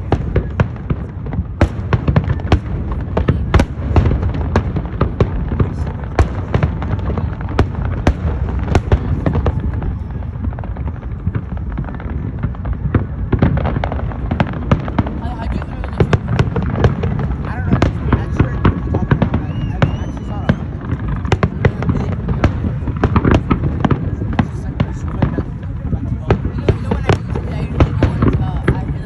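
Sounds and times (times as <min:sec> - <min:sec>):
fireworks bangs: 0:00.0 - 0:29.0.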